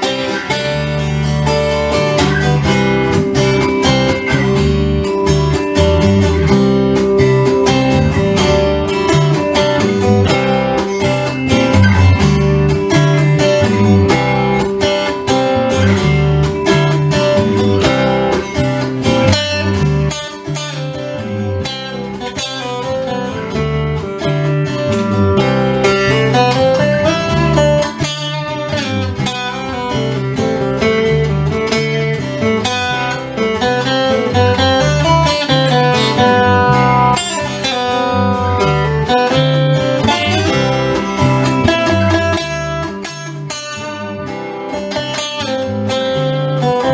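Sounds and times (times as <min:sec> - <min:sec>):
bass line: 0:00.0 - 0:28.0, 0:28.9 - 0:44.6
acoustic guitar strumming: 0:00.0 - 0:46.9.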